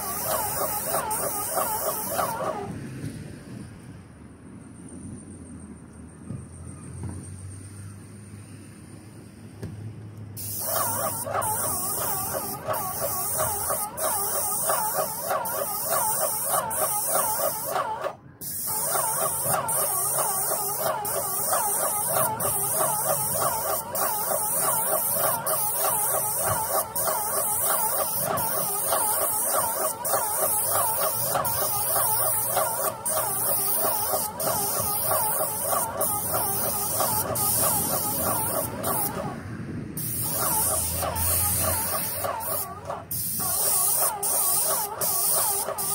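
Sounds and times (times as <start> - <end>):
paint spray gun hissing: 0.0 - 2.7, 10.4 - 39.4, 40.0 - 45.9.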